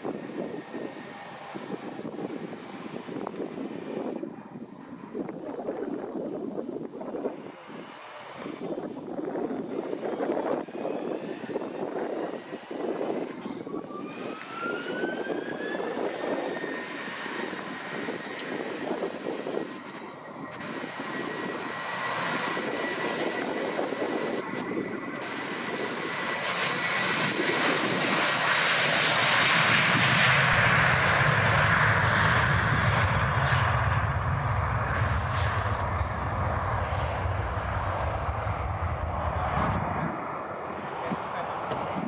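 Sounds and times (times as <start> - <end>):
jet engine roar: 0.0 - 42.0
jet engines spooling up: 0.0 - 42.0.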